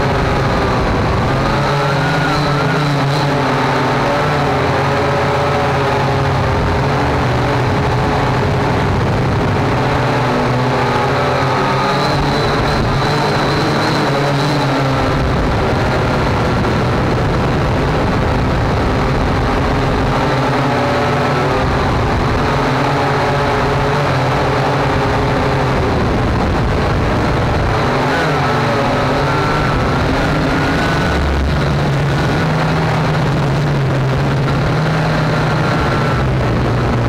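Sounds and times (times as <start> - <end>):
constant noisy rush: 0.0 - 37.0.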